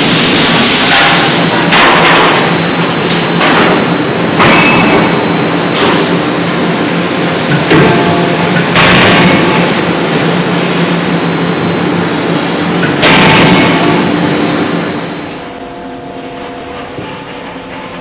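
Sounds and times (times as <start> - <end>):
forging hammer machinery humming: 0.0 - 18.0.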